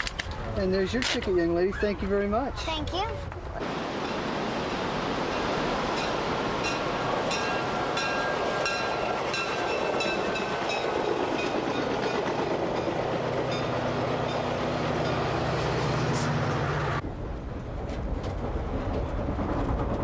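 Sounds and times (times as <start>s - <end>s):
train rumbling on rails: 2.6s - 20.0s.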